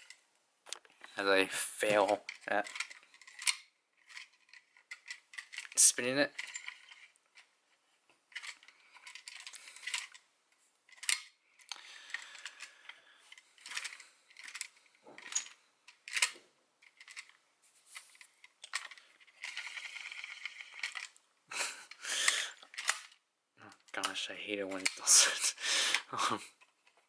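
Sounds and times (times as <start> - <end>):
plastic toy clicking and rattling: 1.9 - 7.5, 8.3 - 10.2, 10.9 - 12.7, 13.3 - 17.4, 18.0 - 21.2, 21.9 - 27.0.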